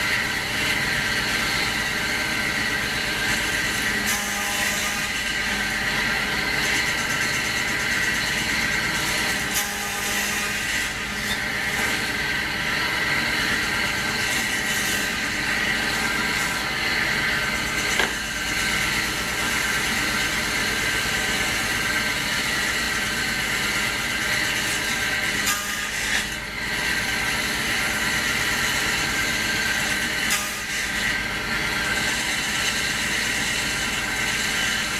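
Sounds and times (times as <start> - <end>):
machine running steadily: 0.0 - 34.9.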